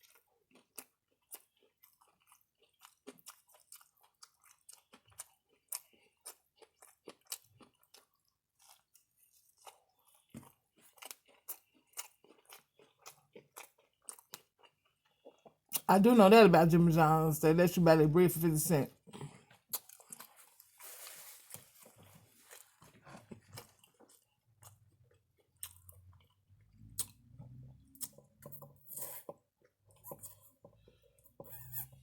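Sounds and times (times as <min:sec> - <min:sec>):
person chewing food: 0:00.0 - 0:15.9, 0:18.9 - 0:32.0.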